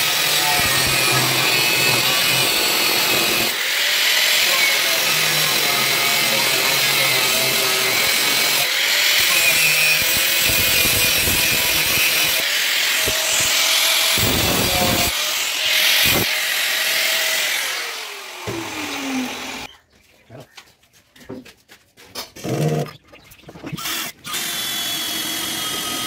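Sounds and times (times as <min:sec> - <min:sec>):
angle grinder cutting steel: 0:00.0 - 0:19.7, 0:23.8 - 0:26.0.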